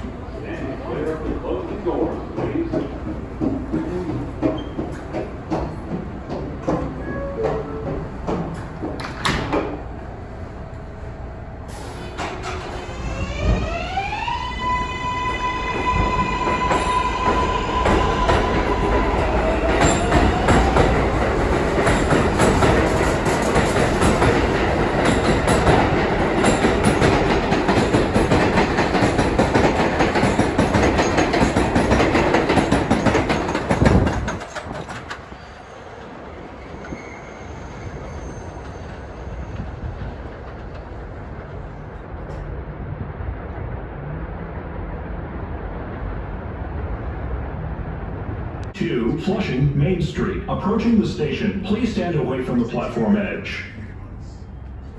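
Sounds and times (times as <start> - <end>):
train wheels rumbling on track: 0.0 - 49.4.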